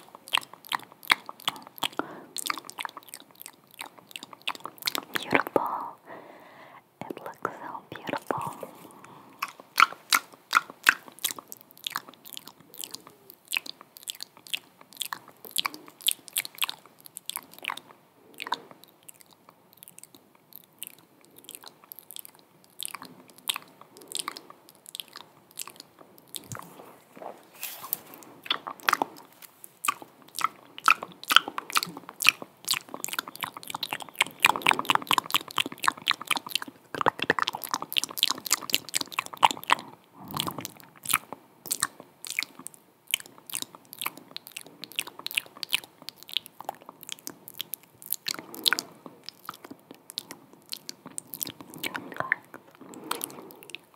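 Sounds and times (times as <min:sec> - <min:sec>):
wet mouth clicks and smacks: 0:00.0 - 0:05.8, 0:07.0 - 0:27.3, 0:27.9 - 0:53.9.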